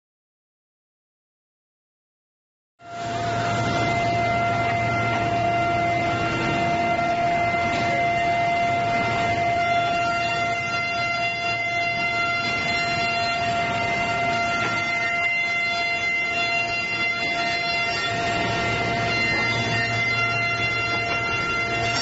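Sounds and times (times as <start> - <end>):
machine hall noise: 2.8 - 22.0
wood planing machine whine: 2.8 - 22.0.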